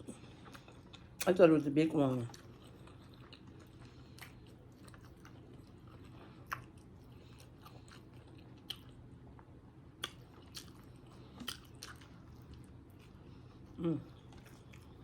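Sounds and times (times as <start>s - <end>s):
close chewing: 0.0s - 15.0s
faint hum: 0.0s - 15.0s.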